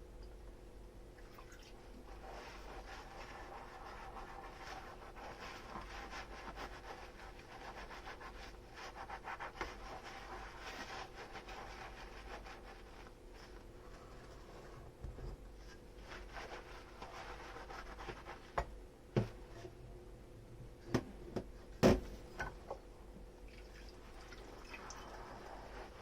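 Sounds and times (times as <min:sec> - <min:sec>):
sponge scrubbing dishes: 0:01.3 - 0:19.7, 0:23.5 - 0:26.0.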